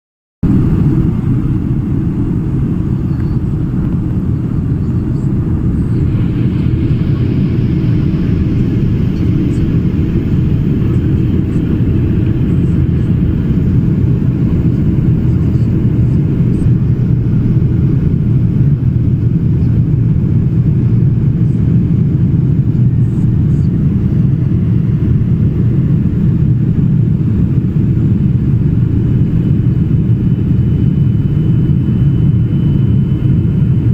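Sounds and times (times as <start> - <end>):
aeroplane rumble: 0.4 - 33.9.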